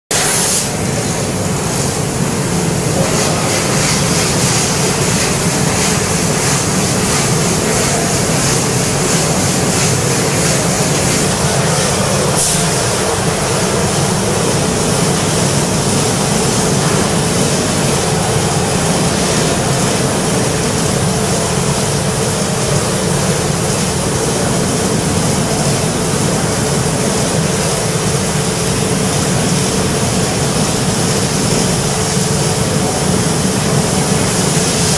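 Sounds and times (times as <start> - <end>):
laser cutter gas hiss: 0.1 - 34.9
steady hum: 0.1 - 34.9.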